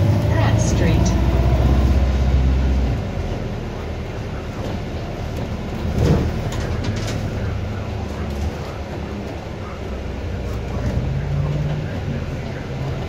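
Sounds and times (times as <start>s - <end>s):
bus drivetrain hum: 0.0s - 13.0s
road noise: 0.0s - 13.0s.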